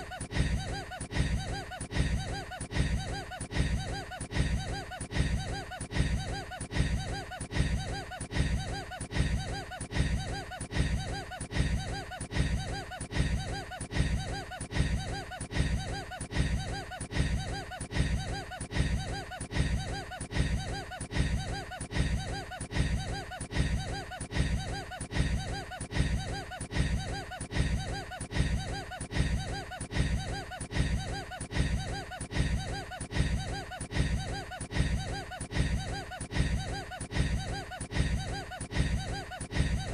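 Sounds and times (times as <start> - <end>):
man laughing on a loop: 0.0 - 39.9.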